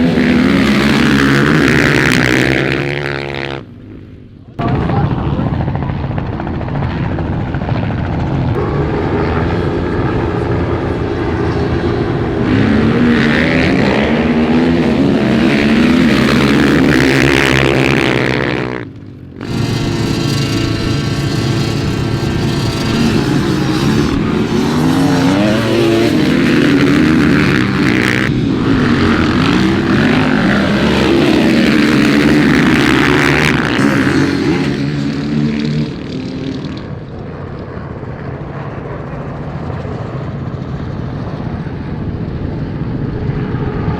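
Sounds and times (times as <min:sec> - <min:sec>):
vehicle engines revving: 0:00.0 - 0:43.9.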